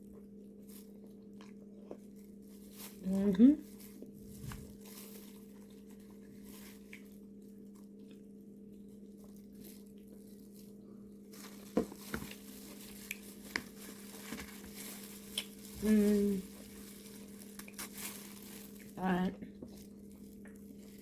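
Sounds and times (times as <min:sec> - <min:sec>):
faint chewing: 0:00.0 - 0:21.0
steady low hum: 0:00.0 - 0:21.0
food handling clicks and rustles: 0:00.6 - 0:21.0.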